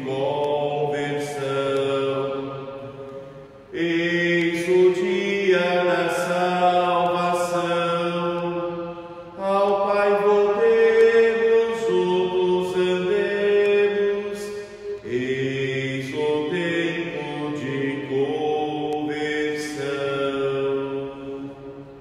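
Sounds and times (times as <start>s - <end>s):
person singing a slow hymn: 0.0s - 22.0s.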